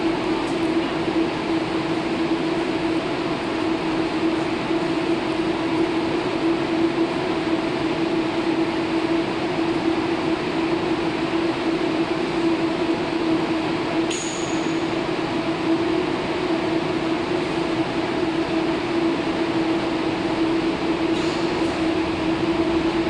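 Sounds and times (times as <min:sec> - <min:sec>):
steady electrical hum: 0:00.0 - 0:23.0
ventilation hiss: 0:00.0 - 0:23.0.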